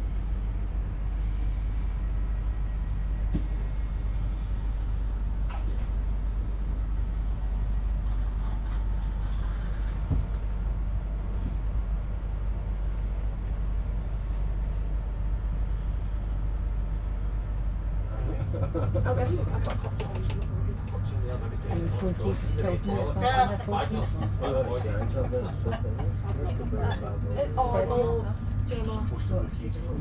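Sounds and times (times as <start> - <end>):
train carriage hum and rumble: 0.0 - 30.0.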